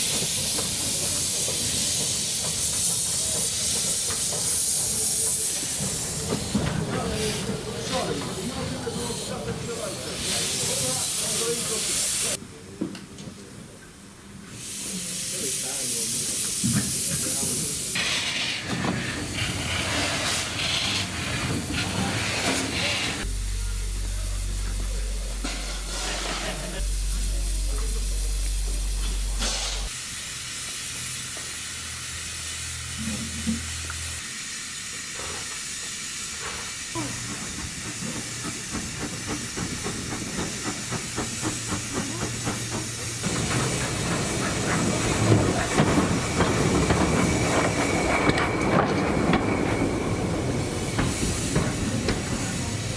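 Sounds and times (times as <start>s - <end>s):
steam locomotive hissing: 0.0s - 12.7s, 13.4s - 52.9s
train noise: 0.0s - 52.9s.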